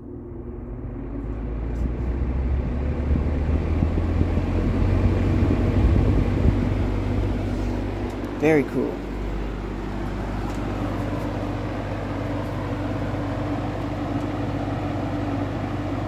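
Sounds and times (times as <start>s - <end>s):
box fan blades rushing air: 0.0s - 16.0s.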